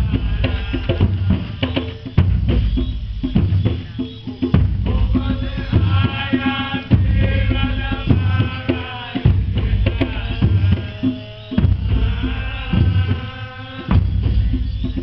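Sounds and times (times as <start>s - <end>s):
group of voices chanting: 0.0s - 2.0s, 4.8s - 15.0s
hand drum strokes: 0.0s - 15.0s
heavy bass drum strokes: 0.0s - 15.0s.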